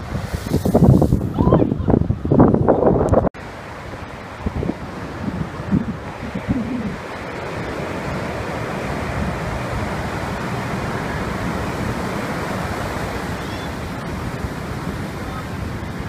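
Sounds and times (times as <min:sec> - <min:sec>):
storm surf breaking on beach: 0:00.0 - 0:16.0.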